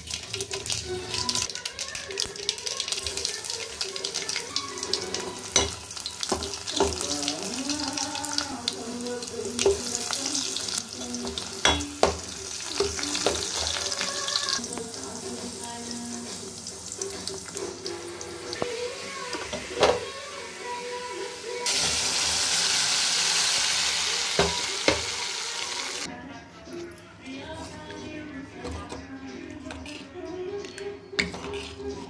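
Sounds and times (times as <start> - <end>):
spices sizzling in hot oil: 0.0 - 26.1.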